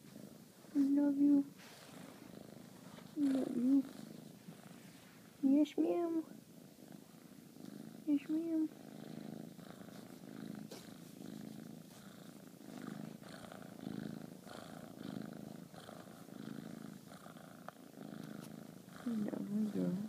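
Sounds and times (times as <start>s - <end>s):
kitten purring: 0.0s - 20.0s.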